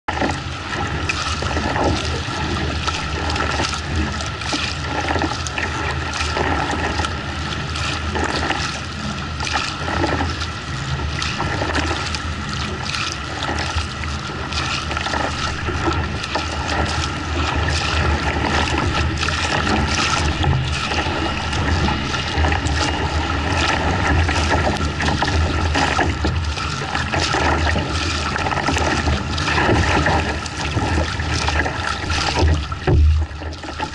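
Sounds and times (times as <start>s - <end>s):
paddle blades slapping water: 0.1s - 33.9s
steady low rumble: 0.1s - 33.9s
water rushing and splashing: 0.1s - 33.9s.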